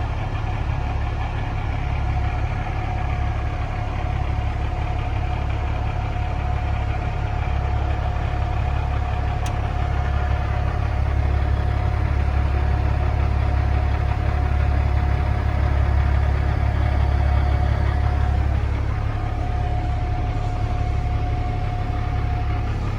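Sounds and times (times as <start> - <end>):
truck engine idling: 0.0 - 22.9.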